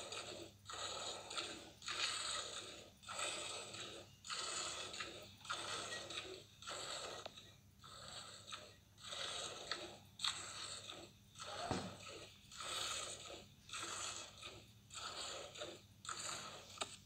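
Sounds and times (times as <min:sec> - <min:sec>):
milk squirting into bucket: 0:00.0 - 0:07.3, 0:07.9 - 0:17.0.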